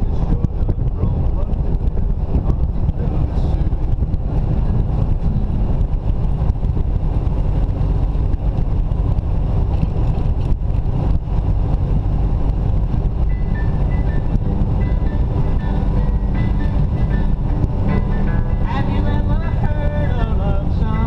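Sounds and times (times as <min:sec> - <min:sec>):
road and engine noise: 0:00.0 - 0:21.0
wind buffeting microphone: 0:00.0 - 0:21.0.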